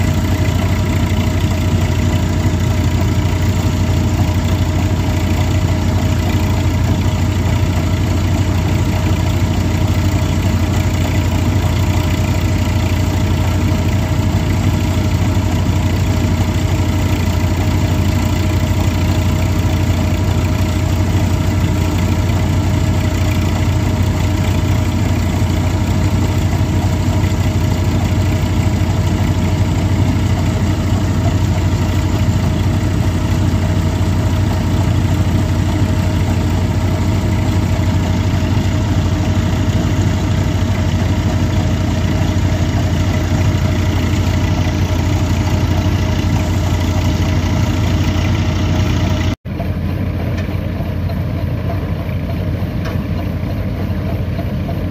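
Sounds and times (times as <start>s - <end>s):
thresher droning: 0.0s - 54.9s
tractor diesel engine running: 0.0s - 54.9s.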